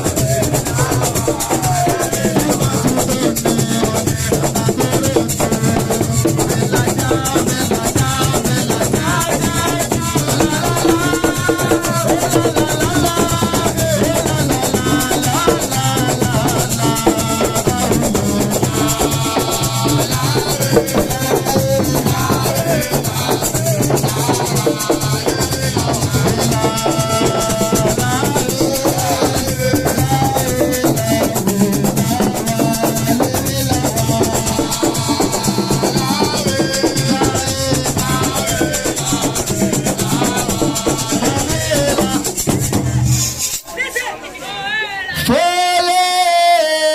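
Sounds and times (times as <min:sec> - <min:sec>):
drums: 0:00.0 - 0:44.2
shaker rhythm: 0:00.0 - 0:44.2.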